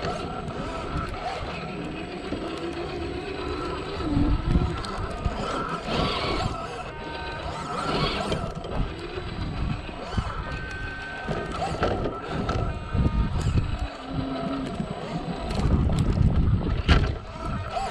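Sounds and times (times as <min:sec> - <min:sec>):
toy car motor whining: 0:00.0 - 0:17.9.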